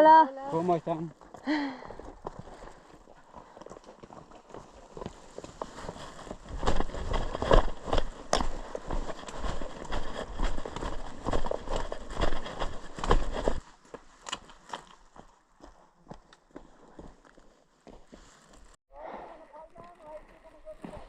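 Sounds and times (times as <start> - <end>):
footsteps on stone trail: 0.0 - 18.8.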